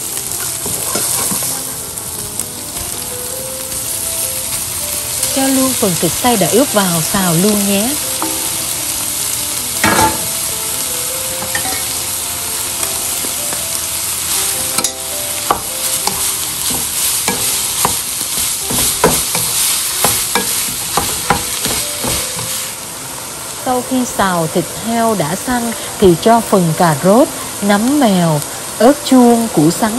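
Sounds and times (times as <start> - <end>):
meat sizzling in oil: 0.0 - 29.9.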